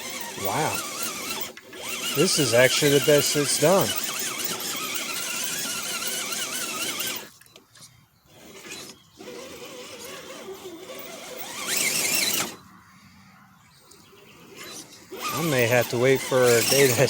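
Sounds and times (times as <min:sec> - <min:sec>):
toy car electric motor whining: 0:00.0 - 0:12.9, 0:13.8 - 0:17.0.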